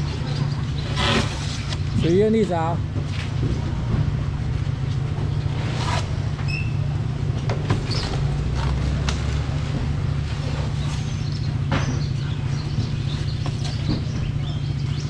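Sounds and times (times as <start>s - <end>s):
knocks and clatter: 0.0s - 15.0s
low street rumble: 0.0s - 15.0s.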